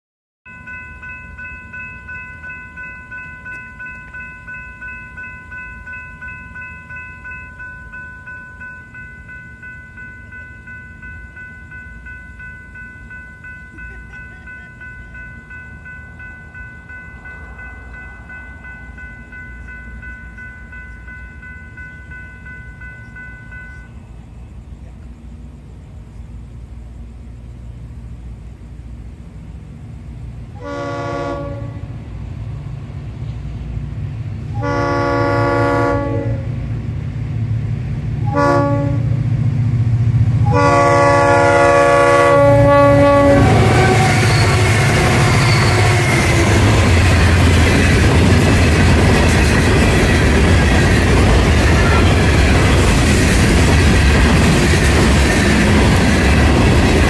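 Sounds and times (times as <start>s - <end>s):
crossing bells ringing: 0.4s - 26.0s, 29.2s - 57.0s.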